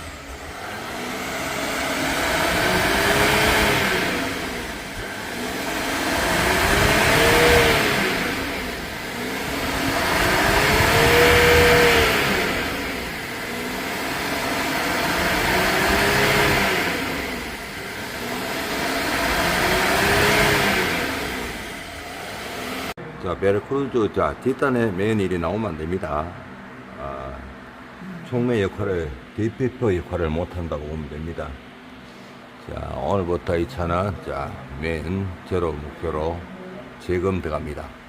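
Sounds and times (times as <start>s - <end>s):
diesel engine revving: 0.0s - 36.5s.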